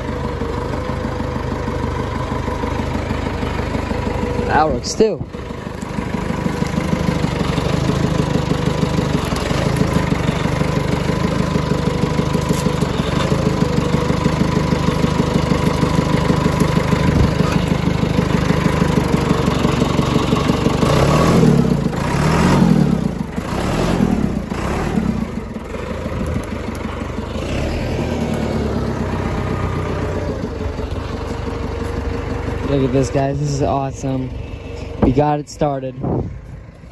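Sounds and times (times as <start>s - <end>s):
diesel engine clattering: 0.0s - 36.9s.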